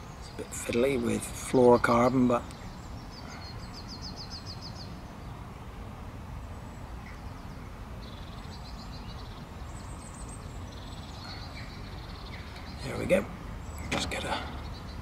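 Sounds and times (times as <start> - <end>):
songbirds trilling: 0.0 - 15.0.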